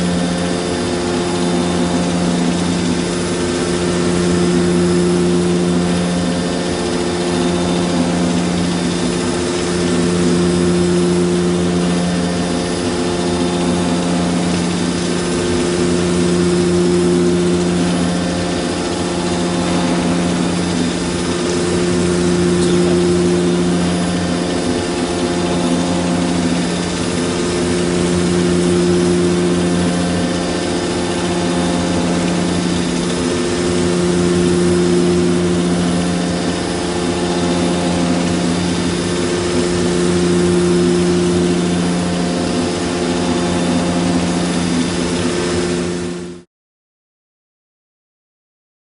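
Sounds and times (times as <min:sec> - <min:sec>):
boring mill machine hum: 0:00.0 - 0:46.5.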